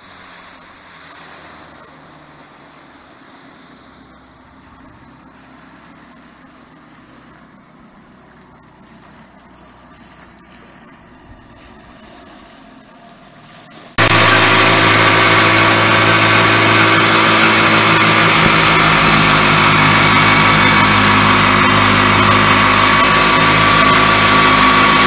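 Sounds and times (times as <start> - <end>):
outboard motor running: 0.0 - 25.0
wind and water hiss: 0.0 - 25.0.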